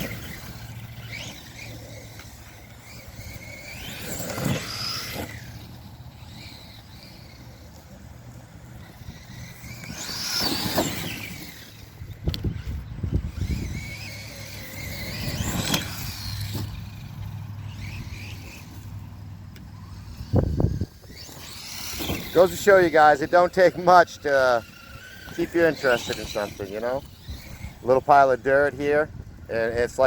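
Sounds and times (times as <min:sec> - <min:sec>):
toy truck motor whine: 0:00.0 - 0:30.0.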